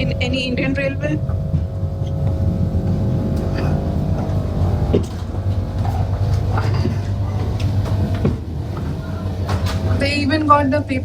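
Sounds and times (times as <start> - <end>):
train rumbling inside coach: 0.0 - 11.0.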